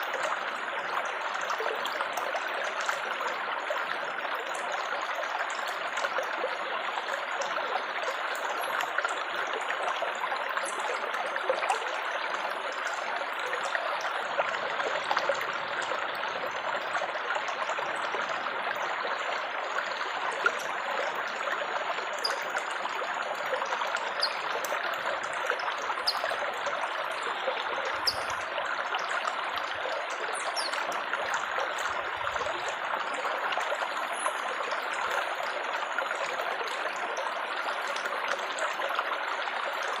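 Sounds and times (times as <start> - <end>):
water trickling and babbling: 0.0 - 40.0.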